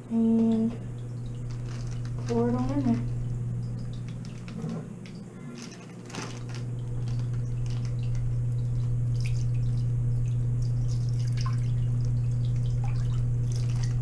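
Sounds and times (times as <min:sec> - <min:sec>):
steady low hum: 0:00.0 - 0:14.0
water pouring into a sink: 0:00.3 - 0:14.0.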